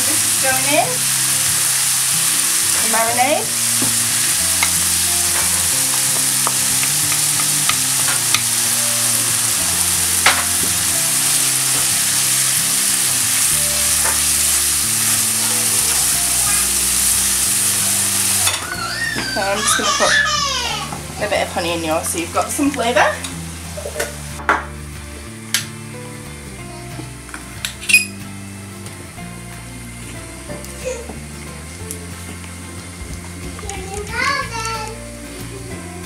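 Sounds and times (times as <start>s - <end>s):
meat sizzling in a frying pan: 0.0s - 24.4s, 29.8s - 35.8s.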